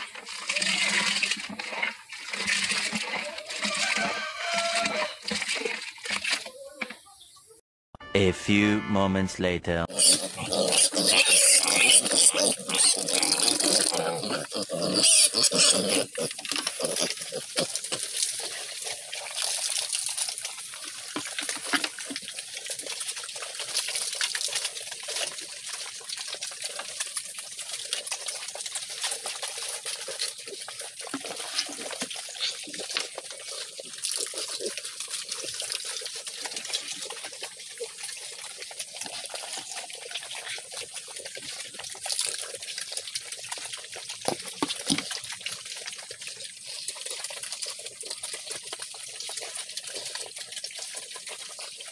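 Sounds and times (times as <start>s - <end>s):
piglets slurping and chewing: 0.0s - 7.2s, 9.9s - 51.9s.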